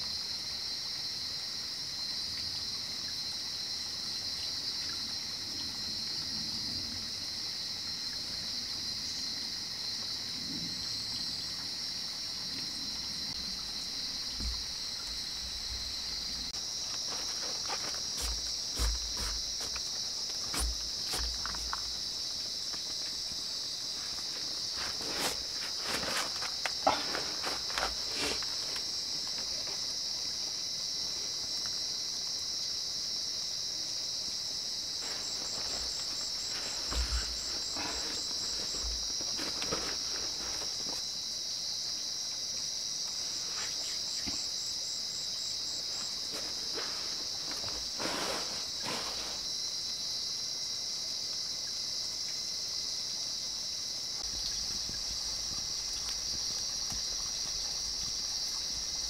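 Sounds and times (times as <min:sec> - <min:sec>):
crickets droning: 0:00.0 - 0:59.0.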